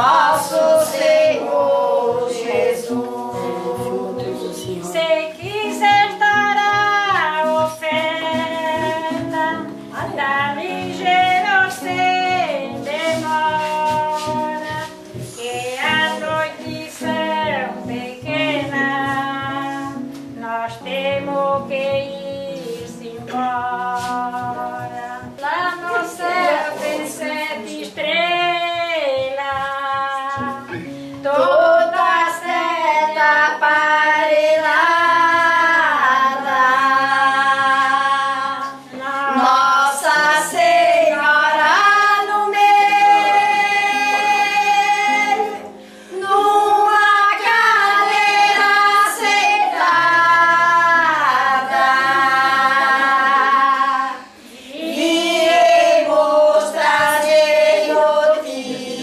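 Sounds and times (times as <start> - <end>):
women singing together: 0.0 - 59.0.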